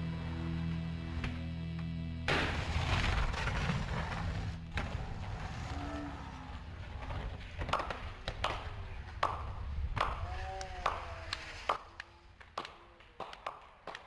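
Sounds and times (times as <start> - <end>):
skateboard wheels rolling on concrete: 0.0 - 14.0.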